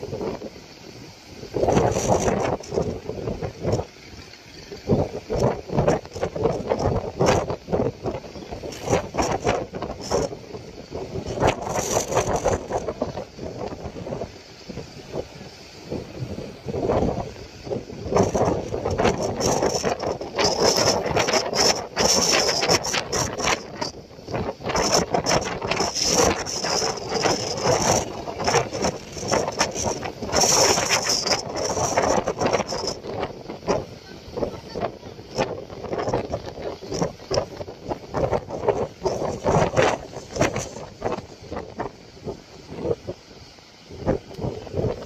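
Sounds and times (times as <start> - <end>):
surf breaking on shore: 0.0 - 45.0
wind buffeting microphone: 0.0 - 45.0.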